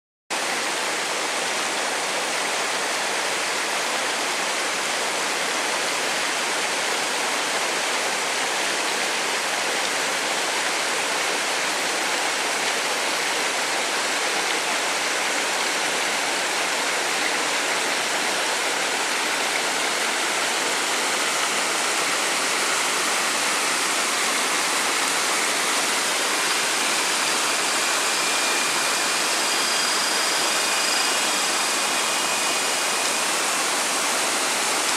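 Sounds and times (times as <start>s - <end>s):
waterfall rushing: 0.4s - 34.9s.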